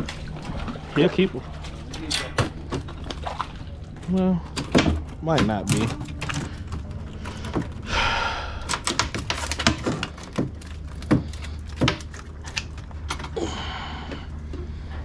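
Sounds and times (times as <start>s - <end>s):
clicks and knocks in boat: 0.0s - 7.9s, 8.6s - 13.4s
steady low hum: 0.0s - 15.0s.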